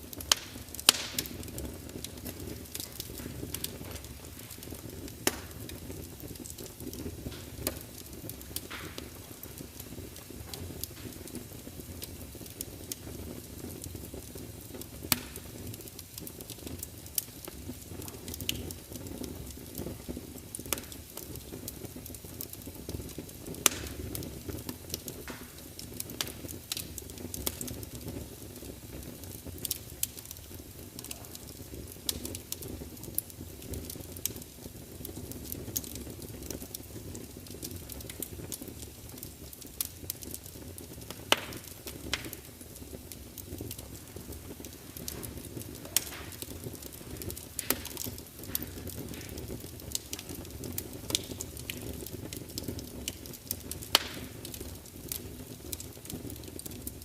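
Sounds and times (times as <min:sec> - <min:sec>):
fire popping and snapping: 0:00.0 - 0:57.0
log fire crackling: 0:00.0 - 0:57.0
low rumble of flames: 0:00.0 - 0:57.0.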